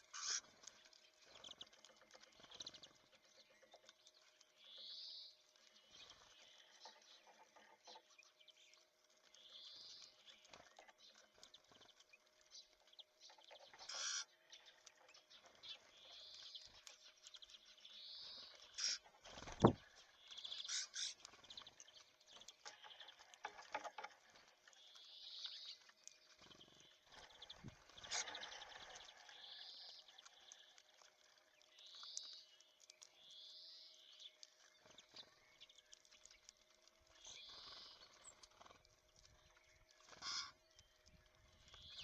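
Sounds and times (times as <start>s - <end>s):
small songbirds calling: 0.0s - 42.0s.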